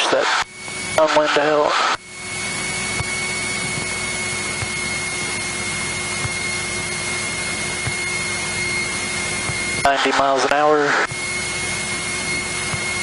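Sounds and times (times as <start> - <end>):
airplane engine cabin drone: 0.0 - 13.0
thin steady whine: 0.0 - 13.0.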